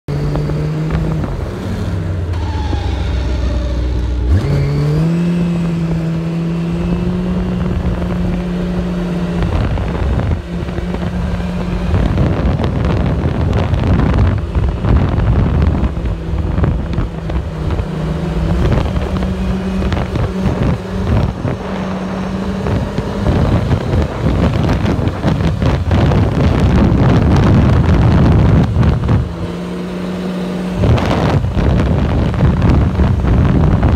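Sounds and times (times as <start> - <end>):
snowmobile engine whining: 0.1 - 33.9
wind noise on microphone: 0.1 - 33.9.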